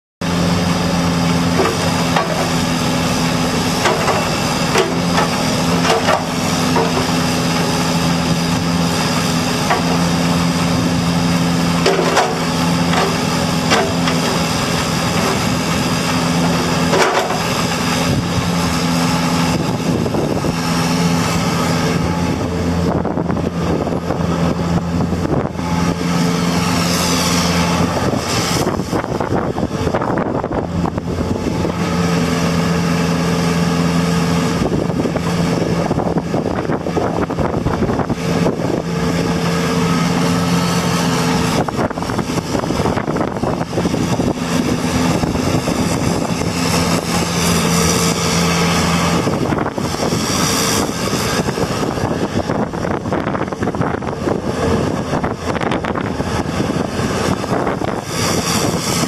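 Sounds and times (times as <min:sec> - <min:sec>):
excavator diesel engine running: 0:00.2 - 0:59.0.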